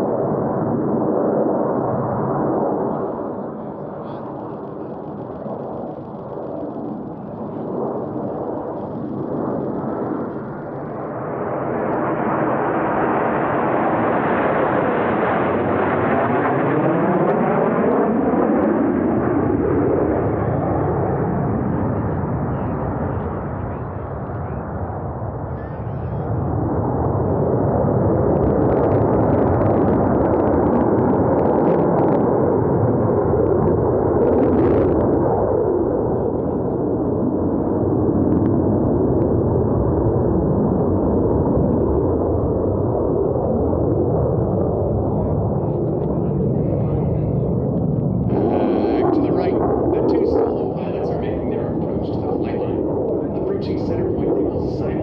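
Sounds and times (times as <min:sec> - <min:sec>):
jet engines flying past: 0:00.0 - 0:55.0.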